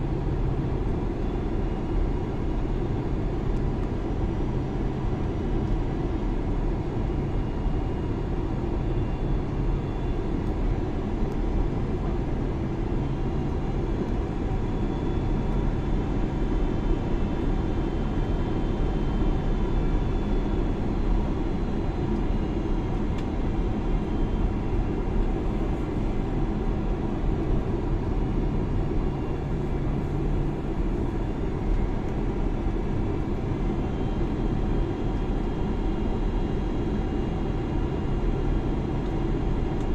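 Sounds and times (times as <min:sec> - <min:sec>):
faint engine whine: 0:00.0 - 0:39.9
jet engines and airflow rush: 0:00.0 - 0:39.9.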